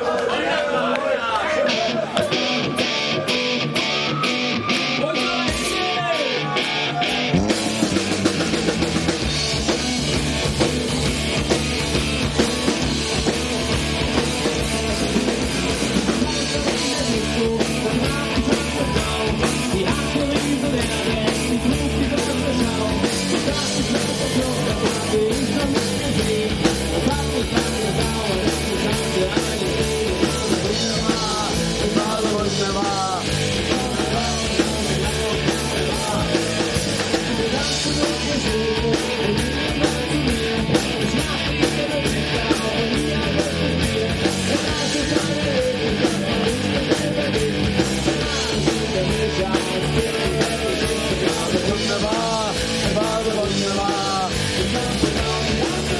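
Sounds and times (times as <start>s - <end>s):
punk rock band playing: 1.0s - 55.9s.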